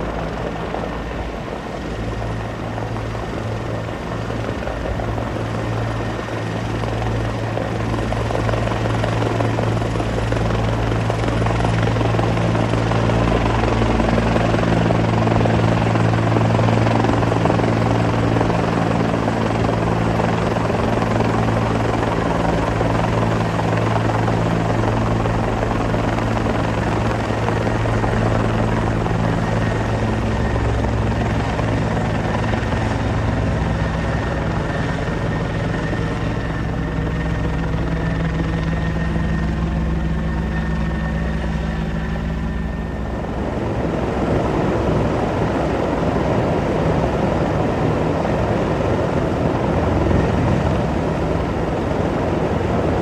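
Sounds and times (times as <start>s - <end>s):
helicopter flying overhead: 0.0s - 53.0s.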